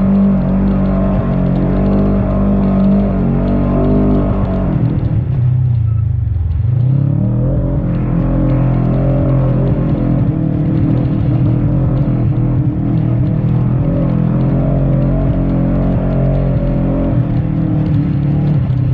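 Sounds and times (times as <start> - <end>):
engine revving: 0.0 - 18.9.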